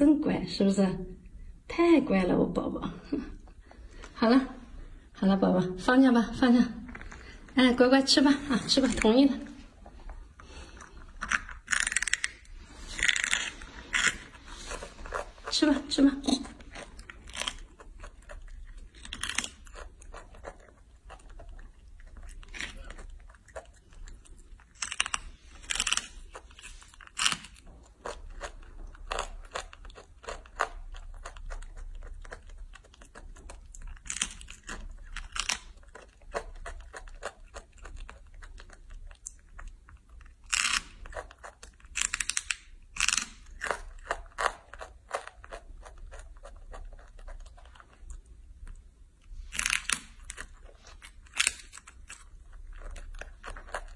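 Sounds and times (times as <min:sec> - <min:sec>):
monkey biting and chewing: 0:06.9 - 0:53.9.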